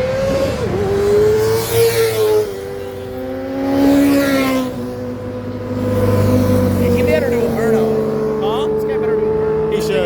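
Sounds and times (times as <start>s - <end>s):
car engines revving past: 0.0s - 10.0s.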